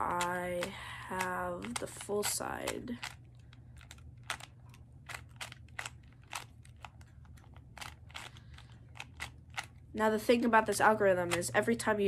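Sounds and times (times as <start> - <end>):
puzzle cube plastic clicks: 0.0 - 9.9, 10.6 - 11.8.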